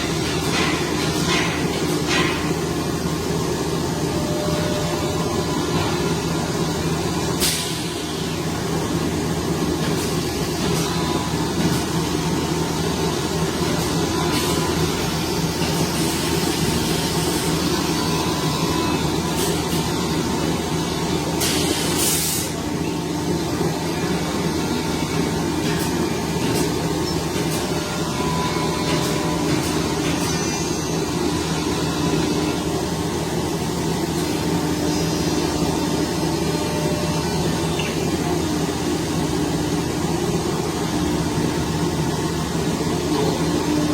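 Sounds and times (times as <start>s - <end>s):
workshop machinery humming: 0.0s - 43.9s.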